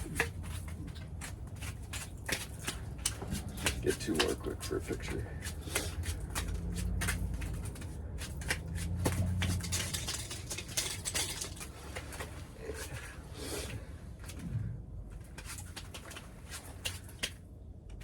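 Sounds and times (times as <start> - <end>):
low hum: 0.0 - 16.5
clicks and knocks of fishing gear: 0.0 - 18.0.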